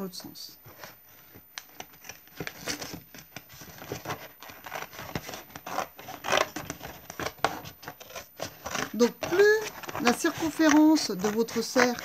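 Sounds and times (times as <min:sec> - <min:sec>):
cardboard box crinkling: 0:00.7 - 0:12.0.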